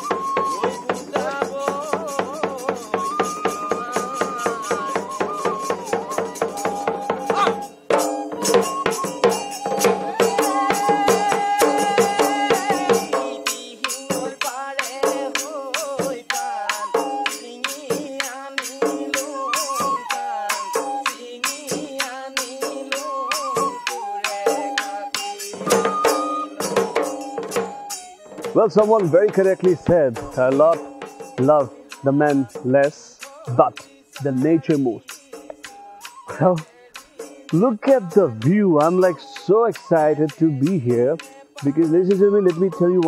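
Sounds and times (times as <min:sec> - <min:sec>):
flute melody: 0:00.0 - 0:13.4, 0:16.4 - 0:43.0
barrel drum fast rhythm: 0:00.0 - 0:19.2, 0:25.2 - 0:35.7, 0:36.4 - 0:43.0.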